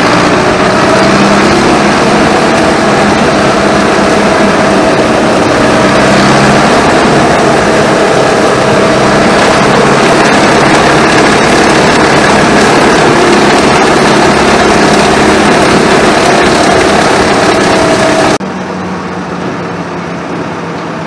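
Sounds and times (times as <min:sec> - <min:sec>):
tractor engine running loud: 0:00.0 - 0:21.0.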